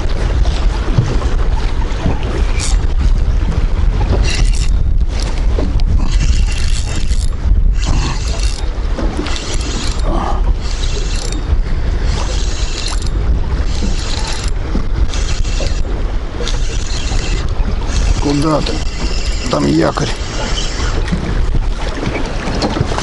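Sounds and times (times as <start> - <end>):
water against boat hull: 0.0 - 23.0
wind buffeting microphone: 0.0 - 23.0.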